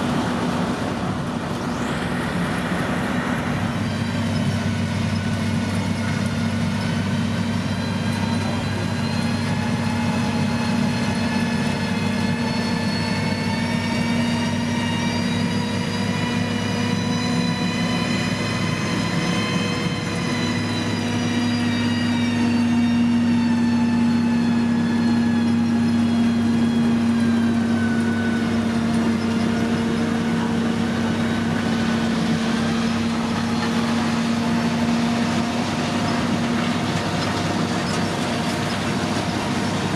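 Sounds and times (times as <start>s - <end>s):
diesel engine running: 0.0s - 39.9s
machine whine rising and falling: 7.4s - 39.9s.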